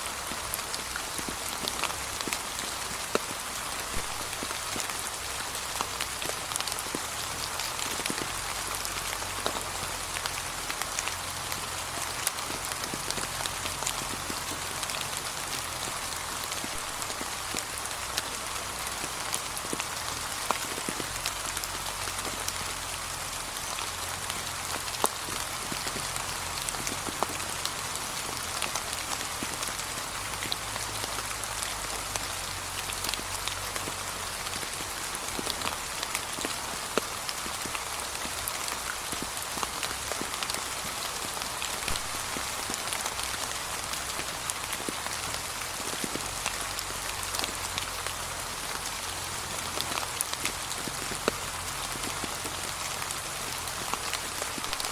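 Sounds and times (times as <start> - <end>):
light rain pattering on leaves: 0.0 - 54.9.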